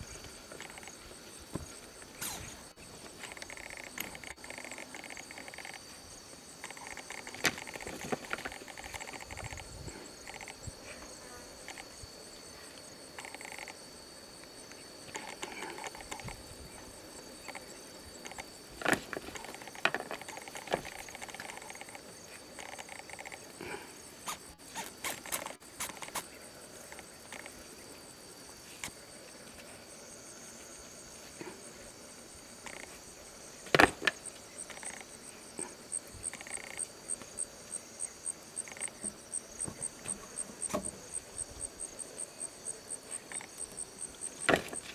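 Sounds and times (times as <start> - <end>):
insects trilling: 0.0 - 44.9
pulsing insect chirp: 0.0 - 44.9.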